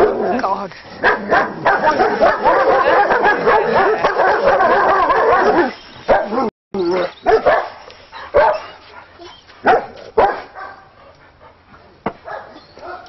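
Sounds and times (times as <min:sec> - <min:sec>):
dogs barking and yelping: 0:01.0 - 0:13.0.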